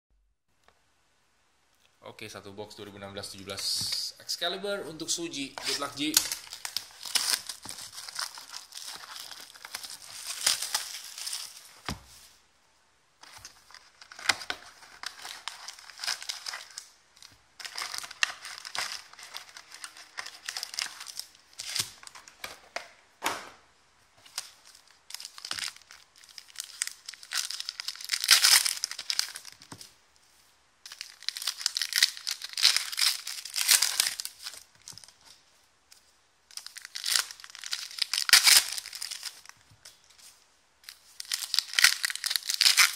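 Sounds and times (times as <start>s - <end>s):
plastic wrap crinkling and tearing: 5.1s - 12.3s, 13.2s - 22.6s, 24.2s - 30.0s, 30.8s - 42.9s.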